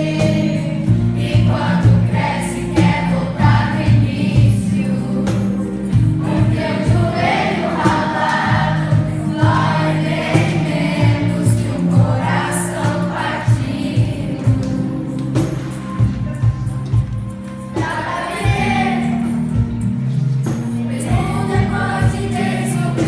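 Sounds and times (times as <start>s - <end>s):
choir singing with instruments: 0.0s - 23.0s.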